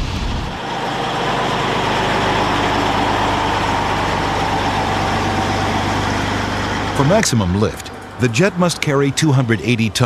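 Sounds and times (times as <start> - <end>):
jet engines whining: 0.0 - 10.0.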